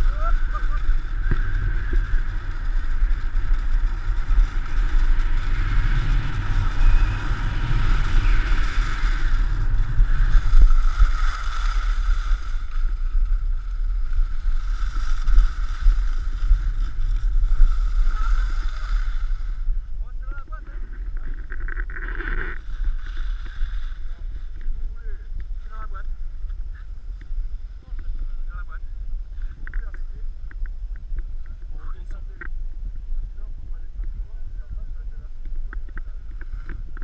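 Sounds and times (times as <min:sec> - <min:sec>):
skis sliding over packed snow: 0:00.0 - 0:30.3, 0:31.3 - 0:37.0
wind rumbling over microphone: 0:00.0 - 0:37.0.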